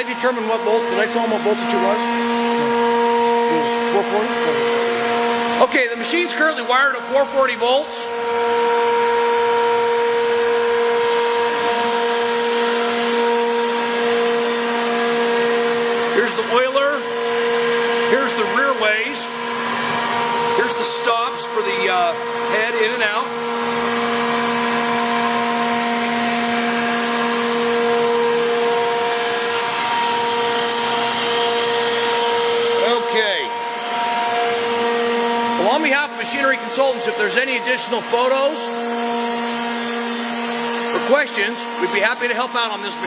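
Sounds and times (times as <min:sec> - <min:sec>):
surface grinder humming and whining: 0:00.0 - 0:43.0.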